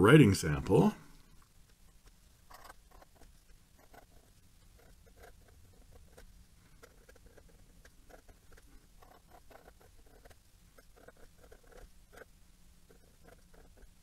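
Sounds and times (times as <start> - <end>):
pen nib scratching on paper: 2.0 - 14.0.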